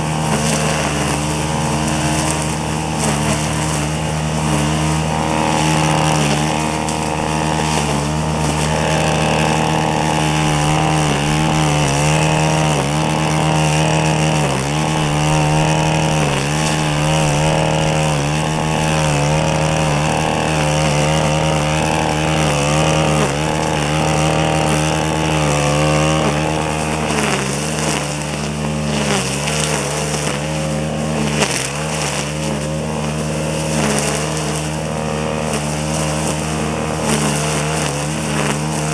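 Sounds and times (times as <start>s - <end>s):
string trimmer cutting grass: 0.0s - 38.9s.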